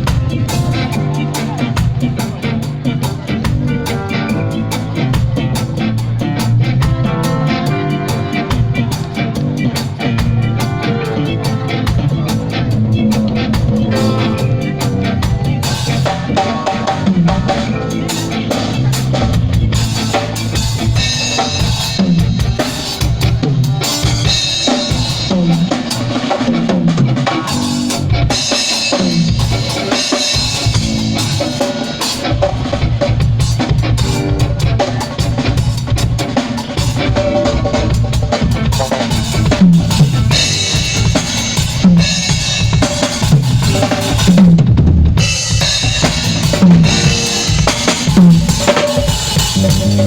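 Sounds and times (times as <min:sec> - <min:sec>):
drum kit playing busy beat: 0:00.0 - 0:50.0
live band jamming: 0:00.0 - 0:50.0.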